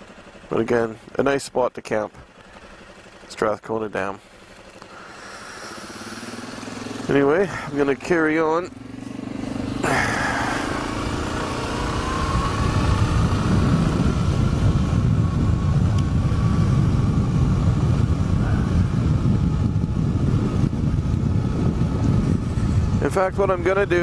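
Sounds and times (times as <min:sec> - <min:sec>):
atv engine: 0:00.0 - 0:24.0.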